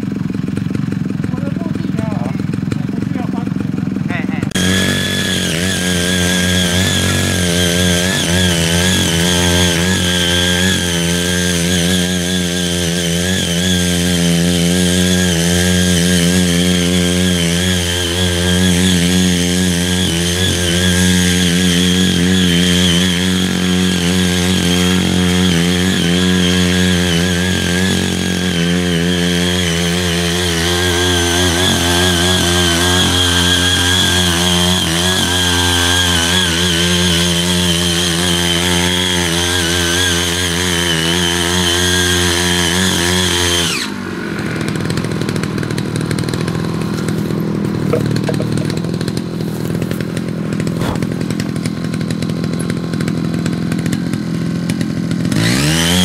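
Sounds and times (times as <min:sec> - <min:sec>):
small petrol engine running: 0:00.0 - 0:56.0
tilling blades churning soil: 0:00.0 - 0:56.0.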